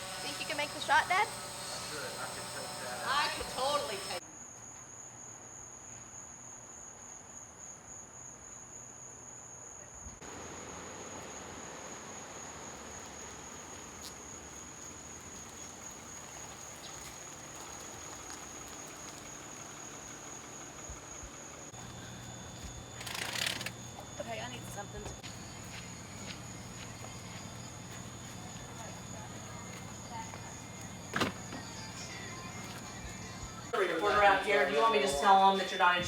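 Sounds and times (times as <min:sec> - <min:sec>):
insects buzzing: 0:00.0 - 0:05.8, 0:10.2 - 0:36.0.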